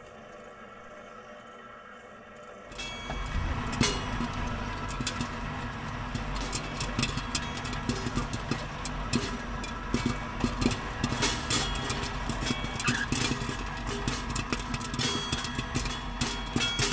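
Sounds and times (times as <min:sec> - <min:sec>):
low hum: 0:00.0 - 0:16.7.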